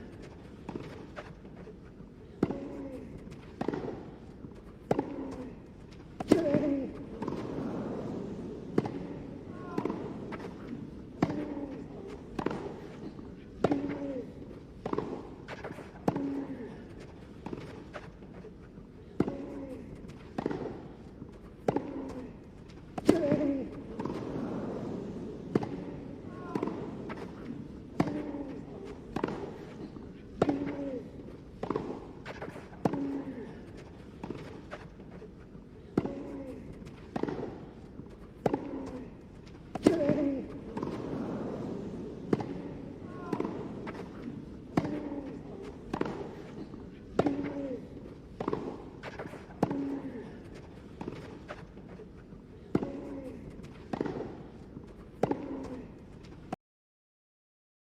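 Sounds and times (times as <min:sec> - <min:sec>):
racket hitting tennis ball: 0:00.0 - 0:56.5.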